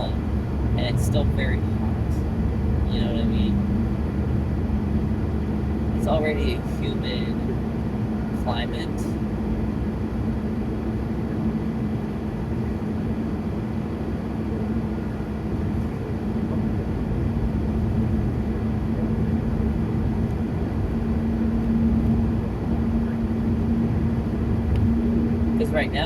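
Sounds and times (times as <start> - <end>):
car road and engine noise: 0.0 - 26.0.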